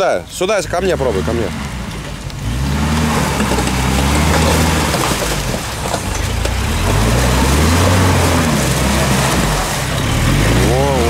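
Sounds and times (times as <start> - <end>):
mud and water splashing: 0.0 - 11.0
engine revving in low gear: 0.7 - 5.6, 6.4 - 11.0.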